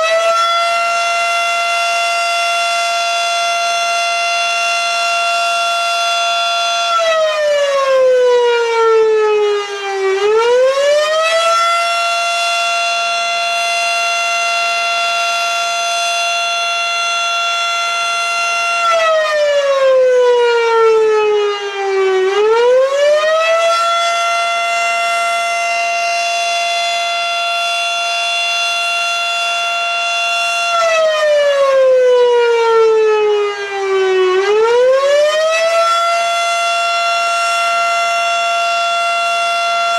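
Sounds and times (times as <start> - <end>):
mechanical fire siren wailing: 0.0 - 39.9.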